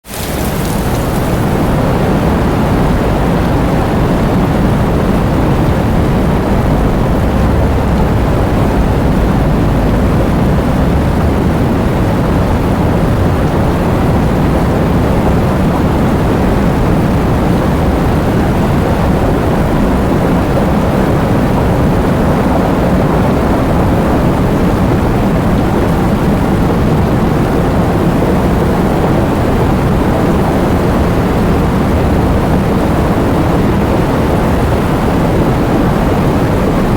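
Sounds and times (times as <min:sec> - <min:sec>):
heavy rain falling: 0:00.0 - 0:36.9.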